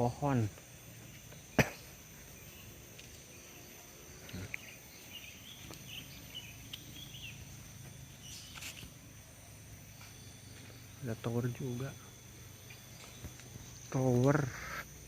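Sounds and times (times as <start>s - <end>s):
bird chirping softly: 0.0s - 15.0s
insects trilling: 0.0s - 15.0s.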